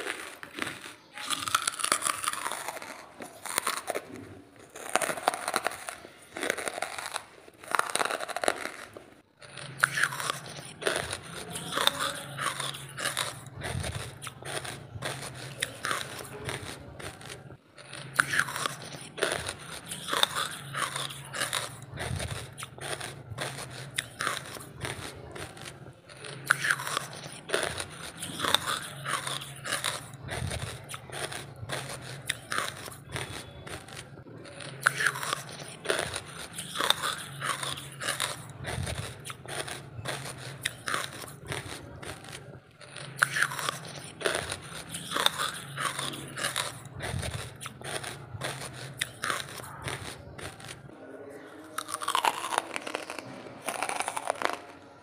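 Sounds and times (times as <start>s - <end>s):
charcoal crunching in chewing: 0.0s - 55.0s.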